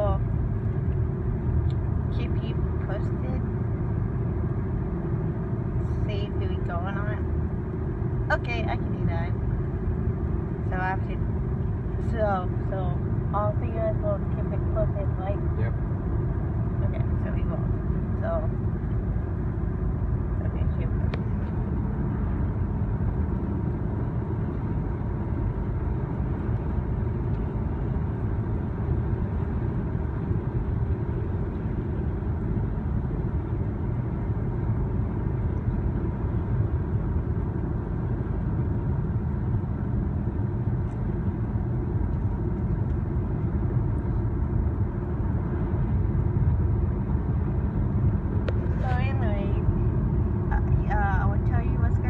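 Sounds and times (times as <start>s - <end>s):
car cabin road and engine rumble: 0.0s - 52.0s.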